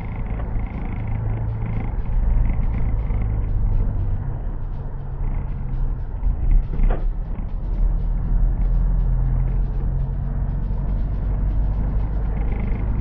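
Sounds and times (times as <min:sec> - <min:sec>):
car engine and tyre hum: 0:00.0 - 0:13.0.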